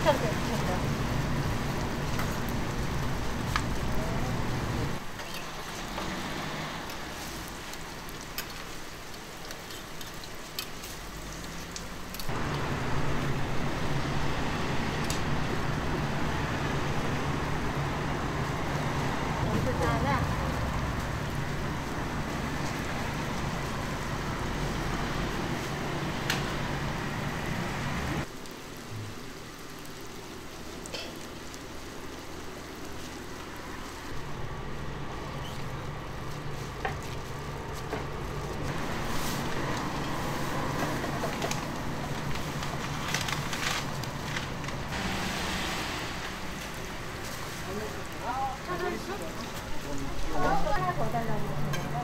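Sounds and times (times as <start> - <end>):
pancakes sizzling in oil: 0.0 - 19.2, 27.8 - 52.0.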